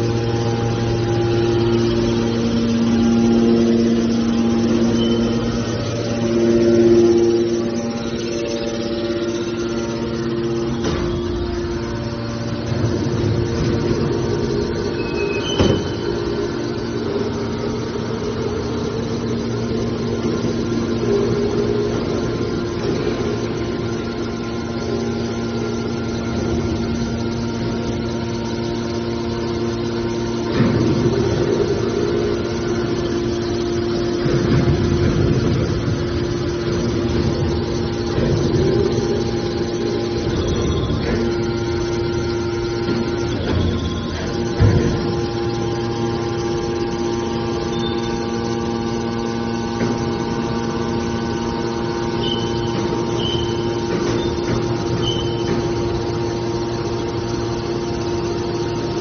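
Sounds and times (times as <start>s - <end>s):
hydraulic power unit humming: 0.0s - 59.0s.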